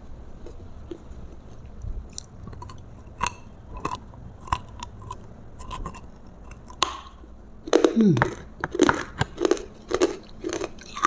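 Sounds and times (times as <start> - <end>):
chewing with crunches: 0.0 - 11.0.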